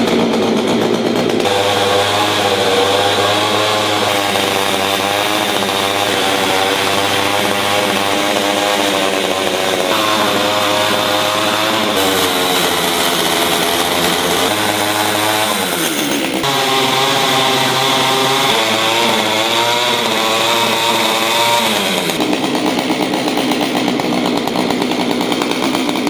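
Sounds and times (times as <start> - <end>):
chainsaw carving wood: 0.0 - 26.0.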